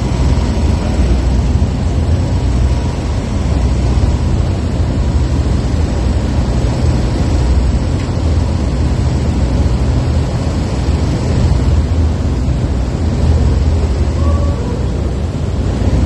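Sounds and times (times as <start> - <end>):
machinery rumbling: 0.0 - 16.0.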